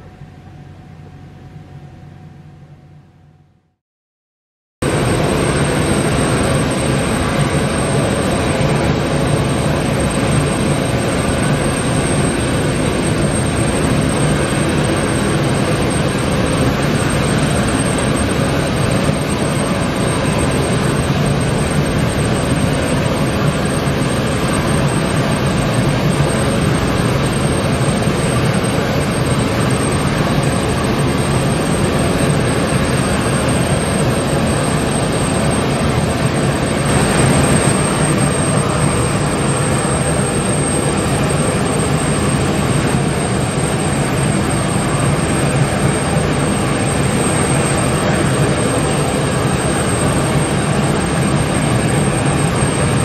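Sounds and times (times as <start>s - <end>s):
jet engines idling: 4.8s - 53.0s.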